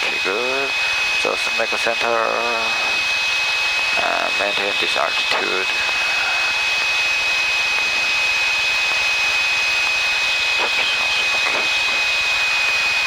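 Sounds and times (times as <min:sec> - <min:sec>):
airplane cabin engine noise: 0:00.0 - 0:13.0
thin high whine: 0:00.0 - 0:13.0.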